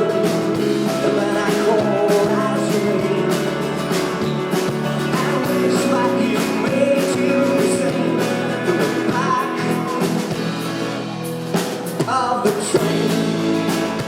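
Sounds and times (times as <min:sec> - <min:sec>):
guitars: 0:00.0 - 0:14.0
steady drum beat: 0:00.0 - 0:14.0.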